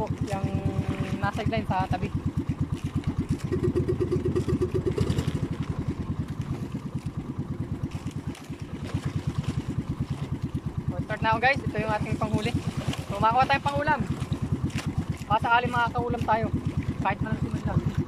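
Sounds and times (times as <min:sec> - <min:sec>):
boat engine puttering: 0:00.0 - 0:18.0.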